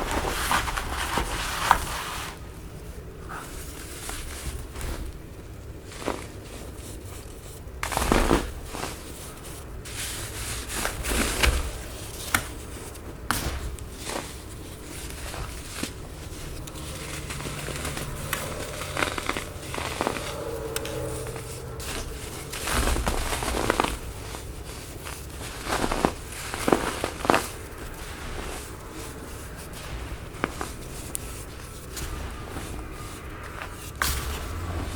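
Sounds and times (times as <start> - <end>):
baking soda crunching: 5.6 - 34.9.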